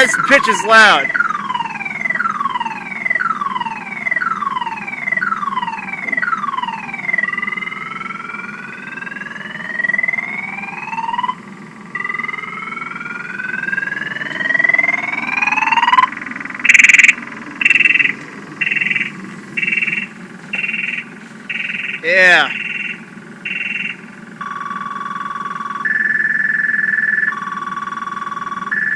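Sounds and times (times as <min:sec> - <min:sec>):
car alarm siren: 0:00.0 - 0:28.9.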